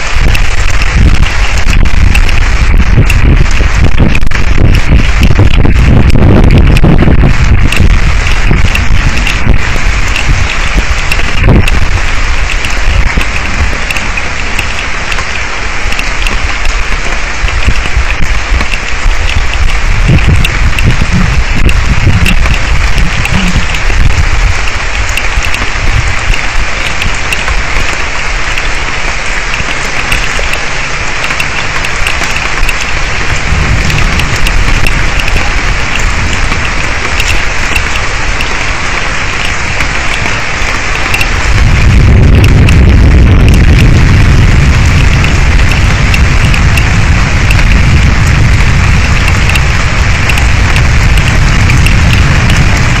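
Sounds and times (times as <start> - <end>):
heavy rain on microphone: 0.0 - 53.0
thunder rumbles: 0.0 - 53.0.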